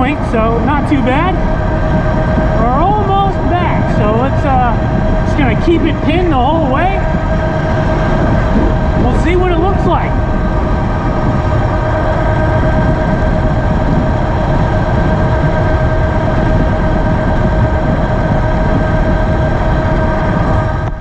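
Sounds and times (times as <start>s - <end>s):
electric hub motor whining: 0.0s - 21.0s
wind rumble on microphone: 0.0s - 21.0s.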